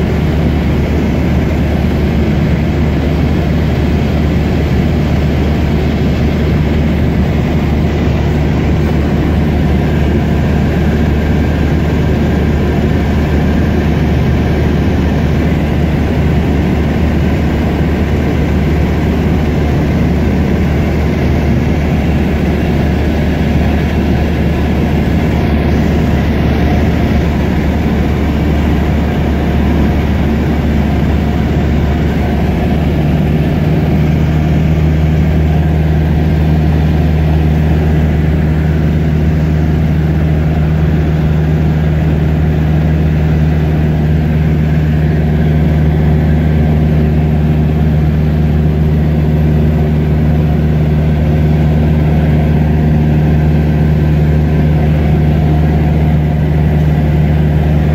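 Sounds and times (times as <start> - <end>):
aircraft engine droning: 0.0 - 57.9.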